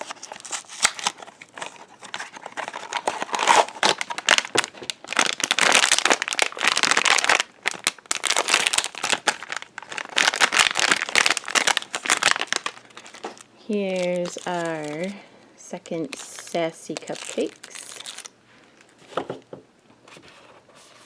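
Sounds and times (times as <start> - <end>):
cardboard and foil crinkling: 0.0 - 19.3.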